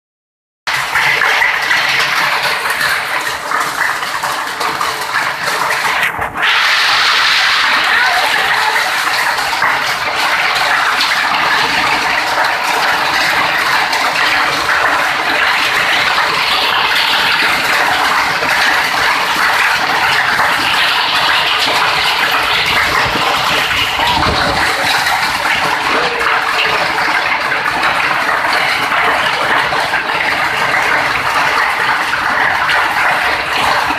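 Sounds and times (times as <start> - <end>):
heavy rain and hail on roofs: 0.7 - 33.9.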